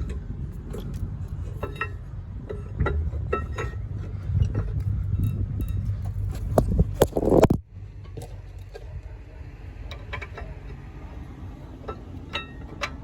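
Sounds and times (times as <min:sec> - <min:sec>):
metal parts clicking and clinking: 0:00.0 - 0:09.0, 0:09.9 - 0:13.0
low rumble with sharp clicks: 0:00.0 - 0:11.0.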